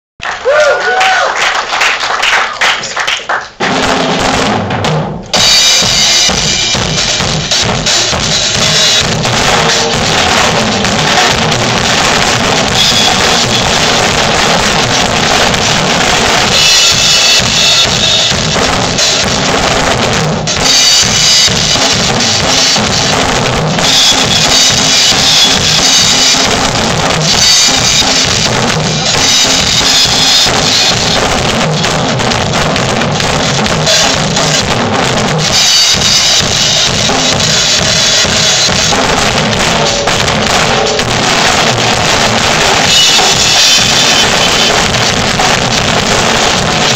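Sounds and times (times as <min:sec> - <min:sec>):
drum kits playing: 0:00.5 - 0:46.9.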